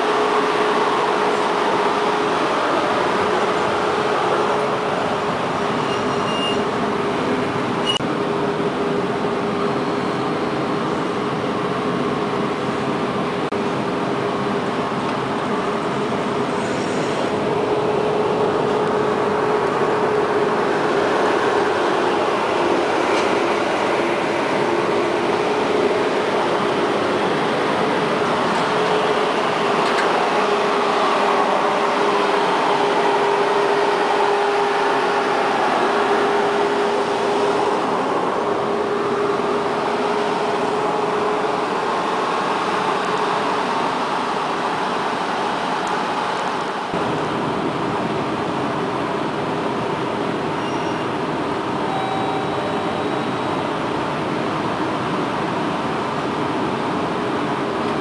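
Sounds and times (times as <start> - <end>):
broad rushing noise: 0.0 - 58.0
tram hum: 0.0 - 58.0.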